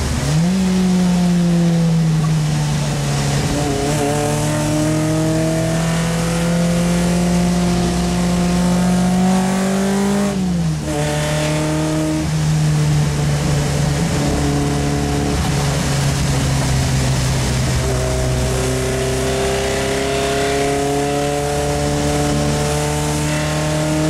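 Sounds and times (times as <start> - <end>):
rain and spray hiss: 0.0 - 20.9
car engine under load: 0.0 - 24.0.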